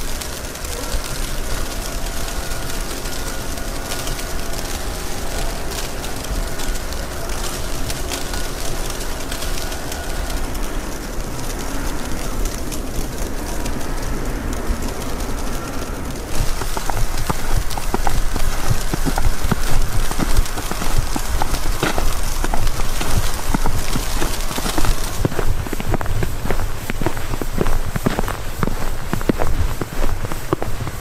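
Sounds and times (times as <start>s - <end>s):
faint thin steady tones: 0.0s - 31.0s
wind buffeting microphone: 0.0s - 31.0s.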